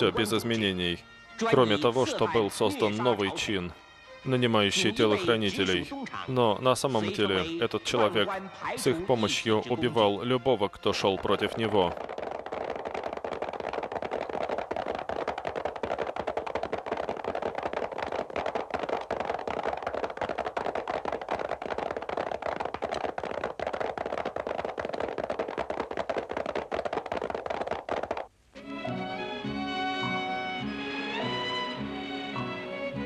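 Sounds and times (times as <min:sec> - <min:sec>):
horses hoofbeats clattering: 0:00.0 - 0:28.3.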